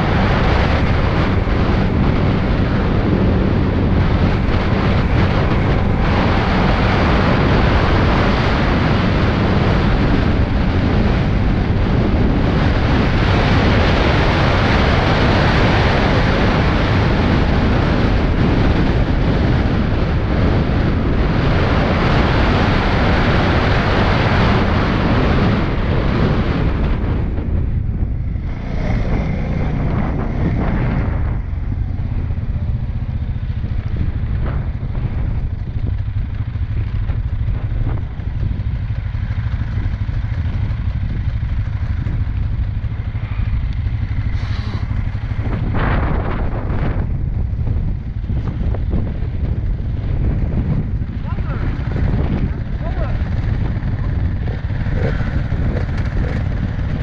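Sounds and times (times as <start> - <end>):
atv engine running: 0.0 - 57.0
wind noise on microphone: 0.0 - 57.0.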